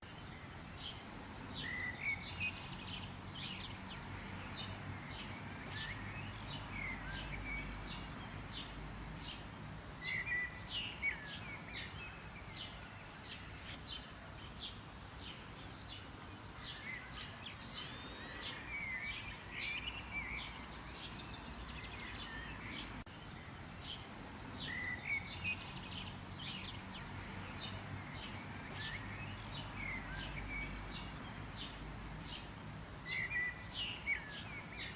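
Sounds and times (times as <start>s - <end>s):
birds chirping: 0.0s - 34.9s
low background noise: 0.0s - 34.9s.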